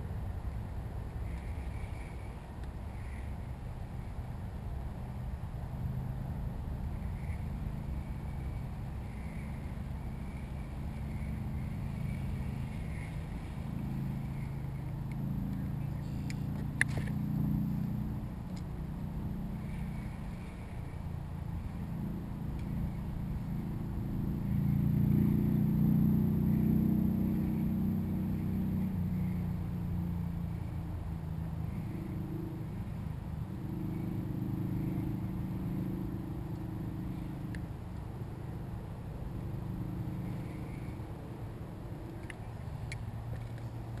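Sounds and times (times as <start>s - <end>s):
low motor hum: 0.0s - 44.0s.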